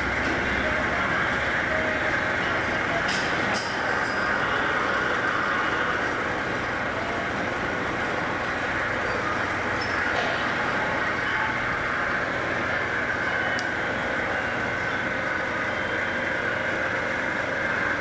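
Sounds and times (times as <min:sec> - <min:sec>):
machinery running steadily: 0:00.0 - 0:18.0.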